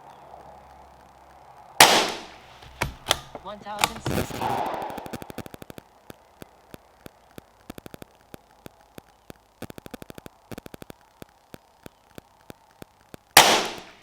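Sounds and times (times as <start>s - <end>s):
sharp clicks and ticks: 1.8s - 14.0s.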